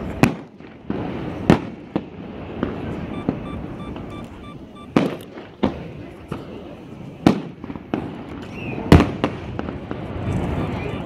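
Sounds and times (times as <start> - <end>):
firework shells bursting with bangs: 0.0 - 10.7.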